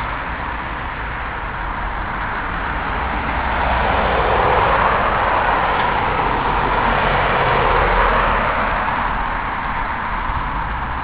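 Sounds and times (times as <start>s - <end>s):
vehicle passing: 1.5s - 11.0s.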